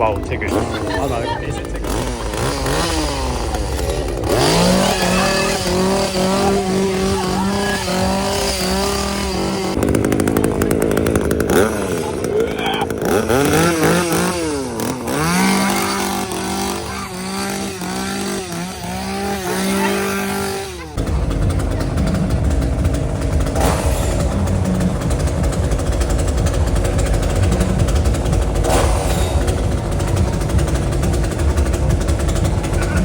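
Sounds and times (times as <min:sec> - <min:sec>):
chainsaw engine revving: 0:00.0 - 0:33.0.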